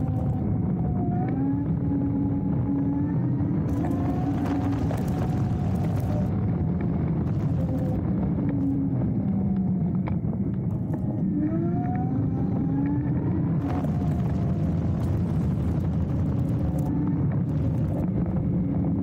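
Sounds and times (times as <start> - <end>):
electric motor whine: 0.0 - 19.0
wind and tyre noise: 0.0 - 19.0.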